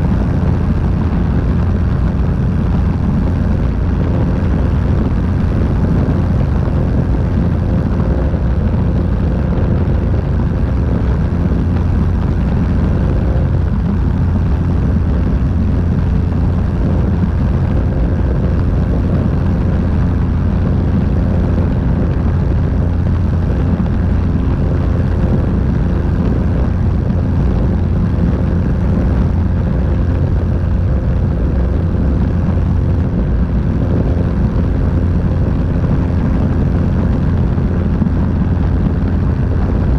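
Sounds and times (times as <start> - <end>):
aircraft engine and propeller drone: 0.0 - 39.9
airflow rushing over microphone: 0.0 - 39.9.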